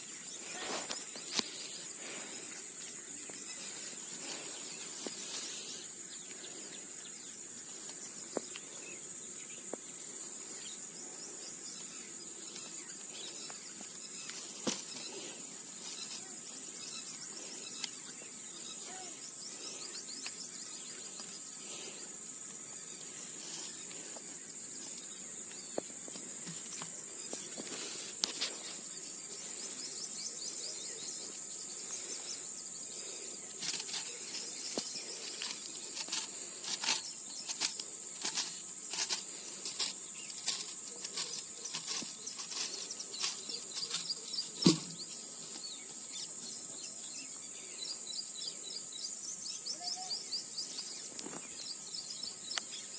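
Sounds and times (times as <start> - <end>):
insects droning: 0.0 - 52.9.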